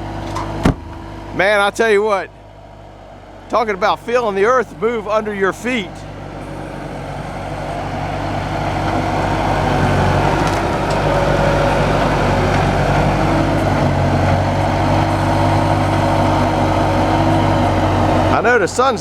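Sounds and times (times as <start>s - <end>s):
crane truck engine running: 0.0s - 19.0s.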